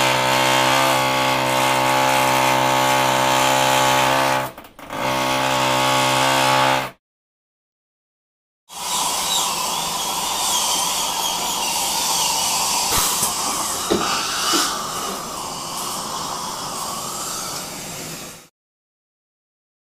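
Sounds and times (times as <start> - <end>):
electric drill whining: 0.0 - 6.9, 8.7 - 18.2.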